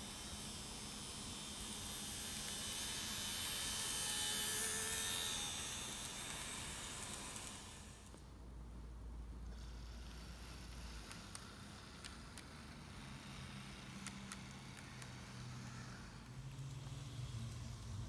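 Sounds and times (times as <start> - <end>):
model train motor buzzing: 0.0 - 8.2, 9.5 - 18.0
model train wheels hissing: 0.0 - 8.2, 9.5 - 18.0.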